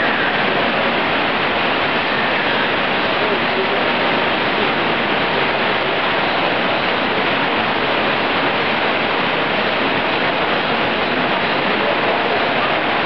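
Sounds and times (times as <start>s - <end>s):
water rushing down waterfalls: 0.0s - 13.0s.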